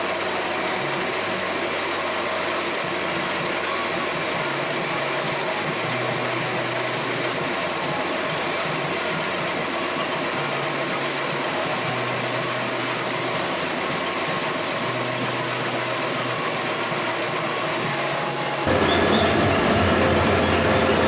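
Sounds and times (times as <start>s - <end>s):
metal lathe humming: 0.0s - 21.0s.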